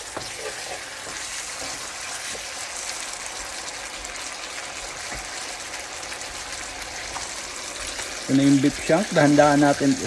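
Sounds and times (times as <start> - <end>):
sauce sizzling and bubbling in a pan: 0.0 - 10.0.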